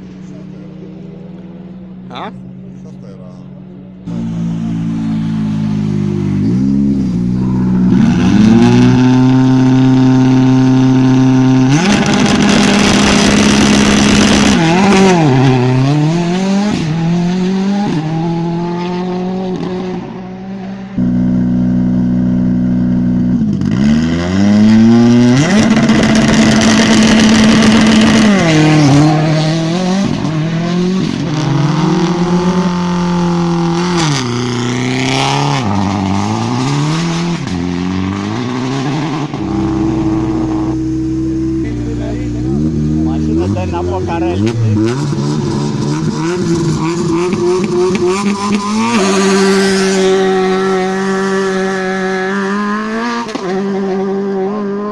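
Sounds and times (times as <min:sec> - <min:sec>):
rally car engine revving: 0:00.0 - 0:54.9.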